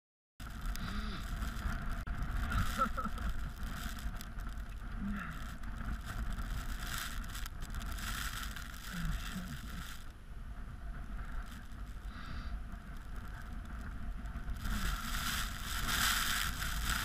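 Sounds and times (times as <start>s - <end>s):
wind buffeting microphone: 0.4s - 17.0s.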